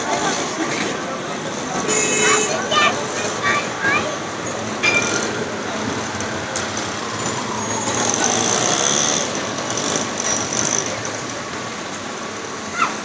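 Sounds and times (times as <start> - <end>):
tram passing on rails: 0.0 - 13.0.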